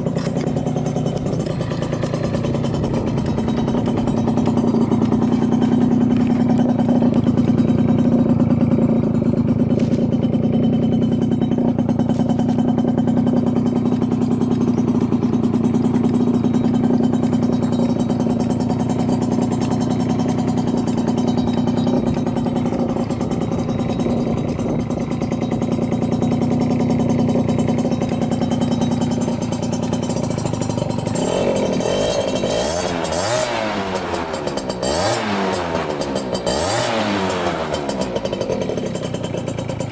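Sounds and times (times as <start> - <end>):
two-stroke scooter engine revving: 0.0 - 39.9.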